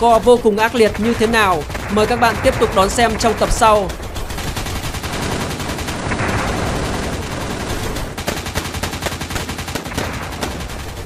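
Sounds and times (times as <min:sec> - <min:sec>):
rapid machine-gun fire: 0:00.0 - 0:11.0.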